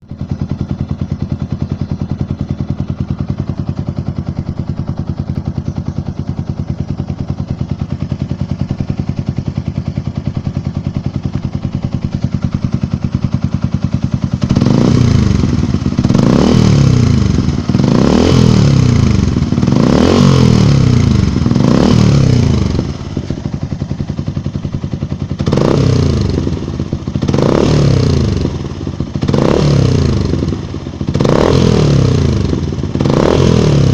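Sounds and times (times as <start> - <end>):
motorcycle engine idling: 0.0 - 33.9
motorcycle engine revving: 0.0 - 33.9.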